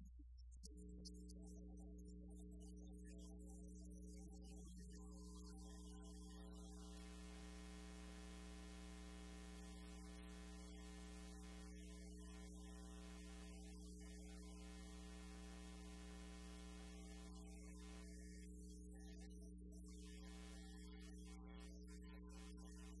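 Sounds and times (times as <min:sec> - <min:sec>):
electrical mains hum: 0:04.3 - 0:23.0.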